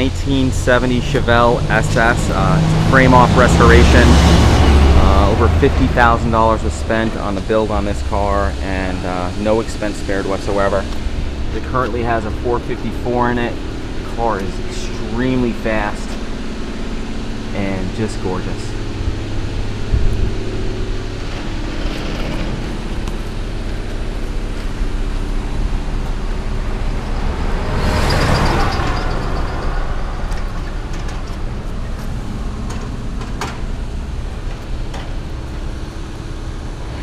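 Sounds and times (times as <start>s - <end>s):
vehicle passing by: 0.0s - 34.7s
road traffic rumble: 0.0s - 37.0s.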